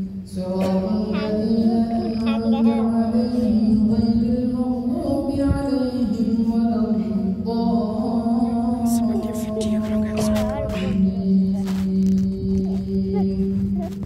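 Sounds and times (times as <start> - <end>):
person chanting melodically: 0.0 - 14.0.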